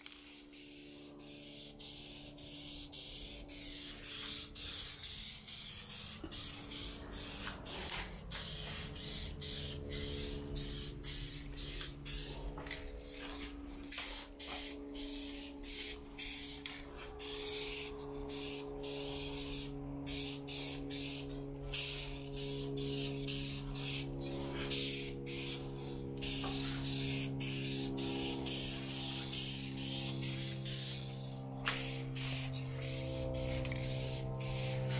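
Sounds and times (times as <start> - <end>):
spray nozzle hissing: 0.1 - 12.4, 13.9 - 16.6, 17.2 - 24.1, 24.7 - 34.9.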